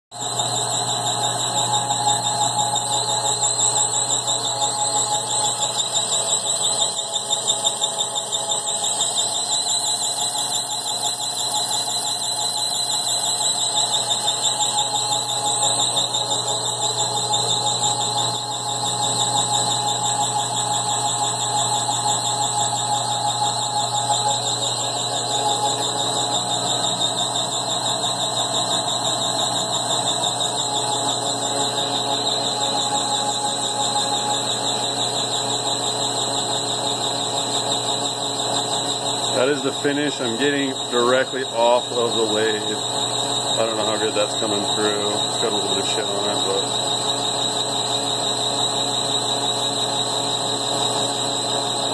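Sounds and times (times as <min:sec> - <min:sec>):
metal lathe high-pitched whine: 0:00.1 - 0:51.9.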